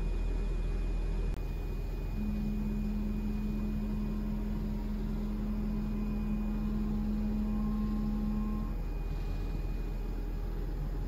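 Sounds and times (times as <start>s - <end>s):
steady low tone: 0.0s - 11.0s
train car hum and rumble: 0.0s - 11.0s.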